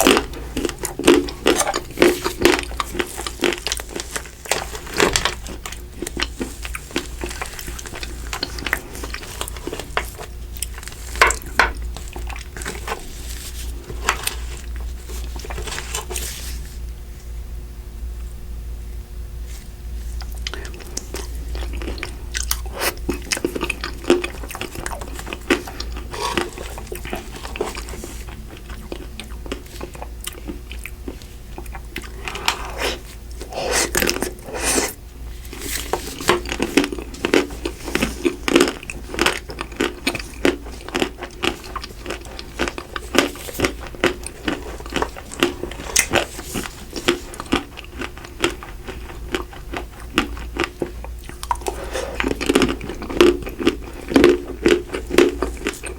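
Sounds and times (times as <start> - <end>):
ice cream crunching and chewing: 0.0 - 17.3, 19.4 - 55.9.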